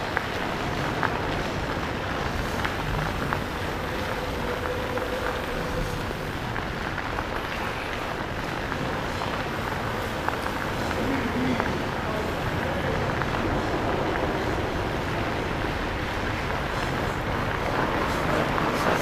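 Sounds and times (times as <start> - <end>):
bike tyres rolling on pavement: 0.0 - 19.0.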